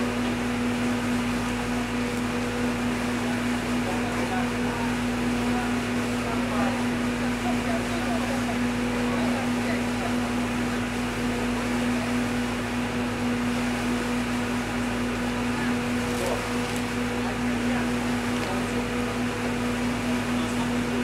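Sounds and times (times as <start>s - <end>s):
ship engine machinery hum: 0.0s - 21.0s.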